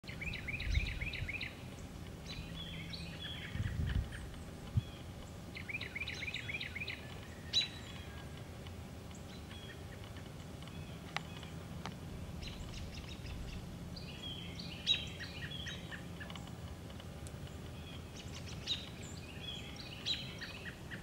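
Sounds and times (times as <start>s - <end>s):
outdoor background noise: 0.0s - 21.0s
songbird chirping: 0.0s - 21.0s
other bird calls: 0.1s - 21.0s.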